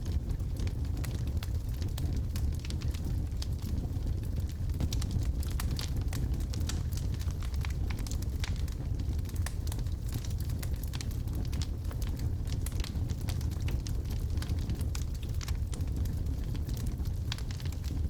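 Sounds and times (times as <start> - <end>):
wood logs burning in fireplace: 0.0 - 18.0.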